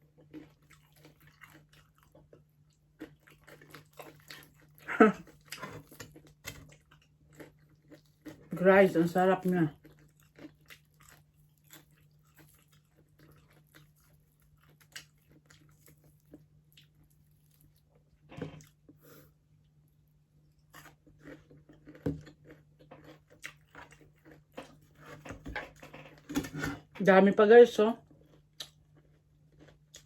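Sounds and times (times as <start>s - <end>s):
chewing and biting: 0.0s - 8.5s, 9.7s - 19.0s, 20.6s - 26.8s, 28.2s - 30.0s.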